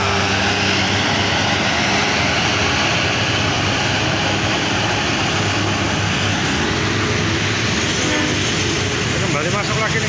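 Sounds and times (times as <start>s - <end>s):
bus diesel engine under load: 0.0s - 10.0s
tyres rushing on road: 0.0s - 10.0s.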